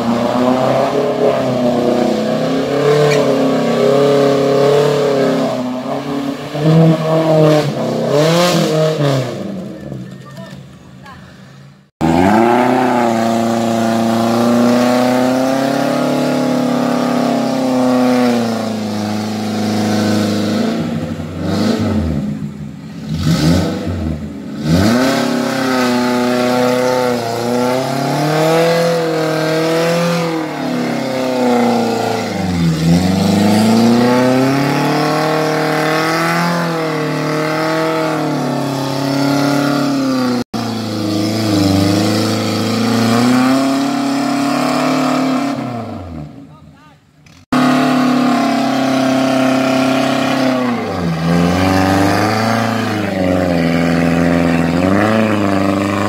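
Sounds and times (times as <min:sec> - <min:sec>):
off-road engine revving in mud: 0:00.0 - 0:10.6, 0:12.0 - 0:46.5, 0:47.2 - 0:56.0.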